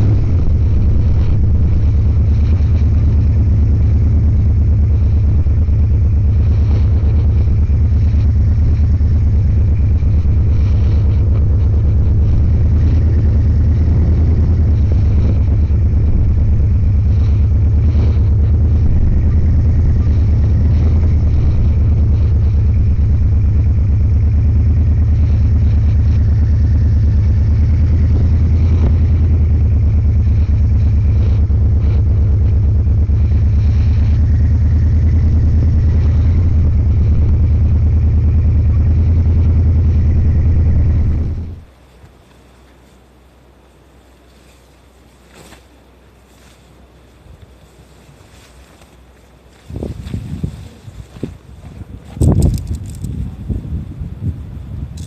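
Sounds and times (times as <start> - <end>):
motorcycle engine droning: 0.0 - 55.0
road and wind noise: 0.0 - 55.0.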